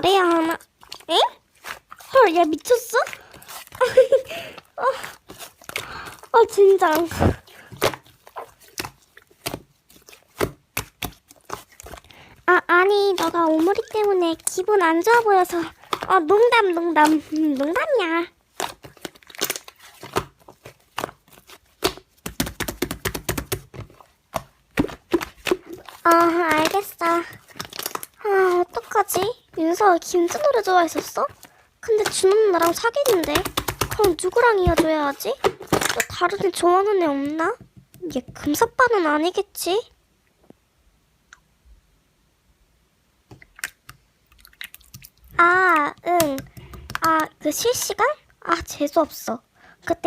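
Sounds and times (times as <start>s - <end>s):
slime squishing by hand: 0.0s - 39.4s, 43.3s - 49.3s.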